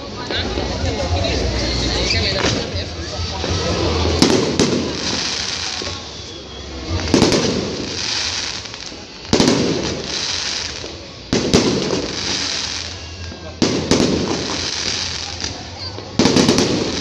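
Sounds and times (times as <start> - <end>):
fireworks crackling: 0.0 - 17.0
fireworks bangs: 0.2 - 17.0.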